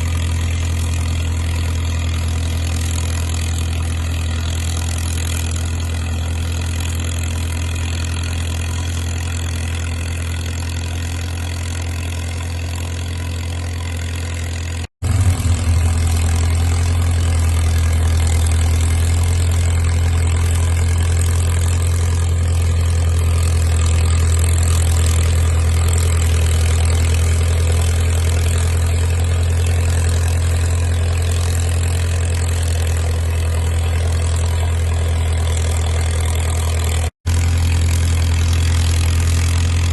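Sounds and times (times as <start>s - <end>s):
dozer diesel engine droning: 0.0s - 39.9s.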